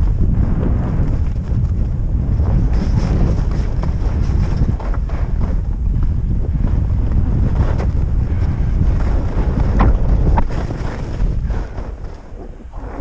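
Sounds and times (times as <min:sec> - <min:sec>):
wind buffeting microphone: 0:00.0 - 0:13.0
skis scraping over snow: 0:00.1 - 0:13.0.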